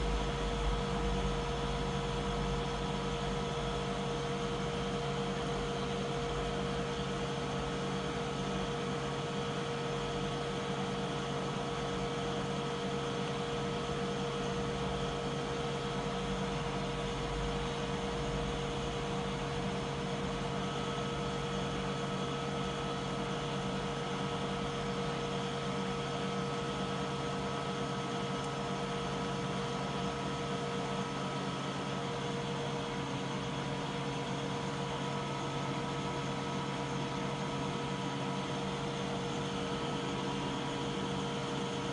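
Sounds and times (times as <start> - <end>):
steady machine hum: 0.0 - 41.9.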